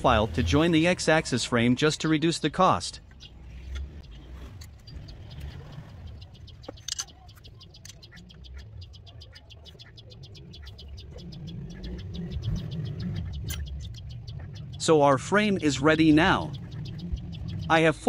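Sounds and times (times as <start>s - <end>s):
low steady rumble: 0.0s - 18.0s
rapid high ticking: 0.0s - 18.0s.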